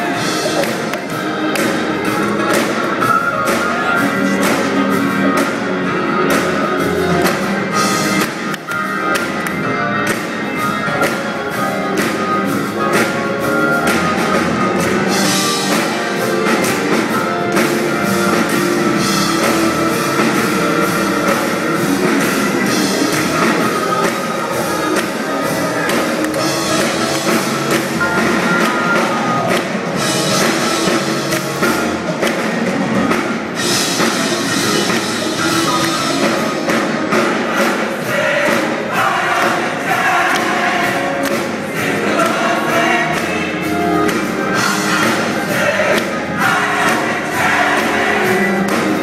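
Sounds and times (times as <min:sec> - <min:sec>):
church band gospel music: 0:00.0 - 0:49.0
drum kit: 0:00.0 - 0:49.0
guitar playing: 0:00.0 - 0:49.0.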